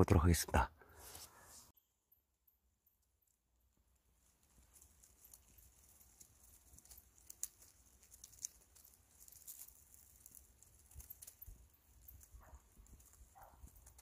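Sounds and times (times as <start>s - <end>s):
faint scattered ticks: 2.0s - 14.0s.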